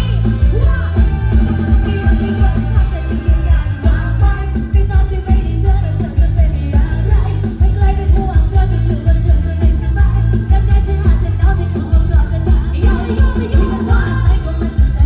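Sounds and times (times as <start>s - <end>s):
heavy bass beat: 0.0s - 15.0s
person singing: 0.0s - 15.0s.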